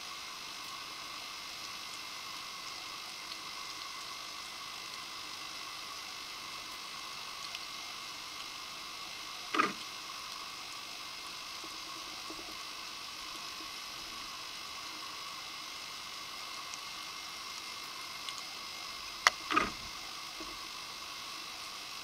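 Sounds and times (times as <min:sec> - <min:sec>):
underwater hiss: 0:00.0 - 0:22.0.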